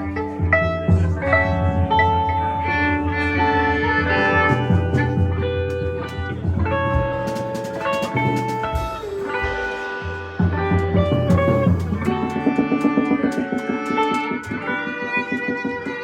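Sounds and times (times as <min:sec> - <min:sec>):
live band playing instrumental: 0:00.0 - 0:16.0.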